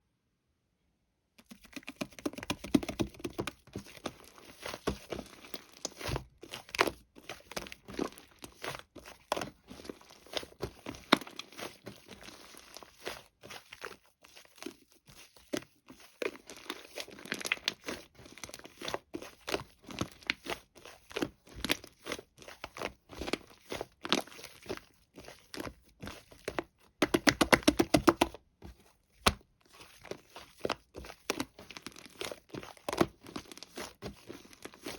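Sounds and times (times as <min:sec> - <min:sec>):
slime squished by hand: 0:01.4 - 0:34.9.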